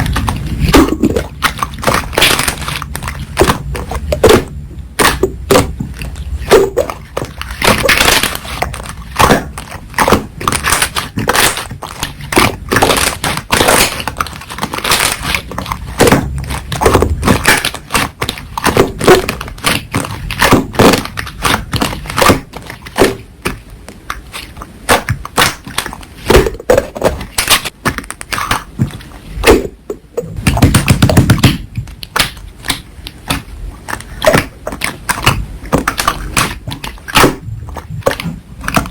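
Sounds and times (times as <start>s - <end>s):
slime squelching and popping: 0.0s - 38.9s.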